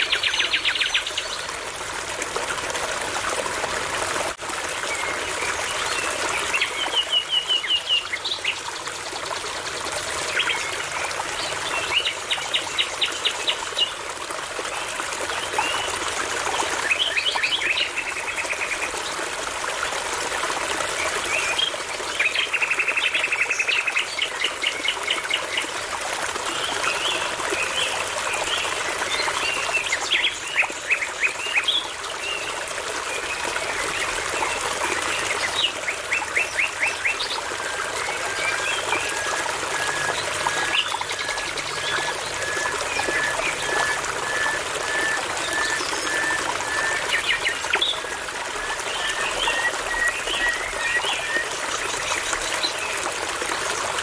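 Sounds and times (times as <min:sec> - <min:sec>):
small brook trickling: 0:00.0 - 0:54.0.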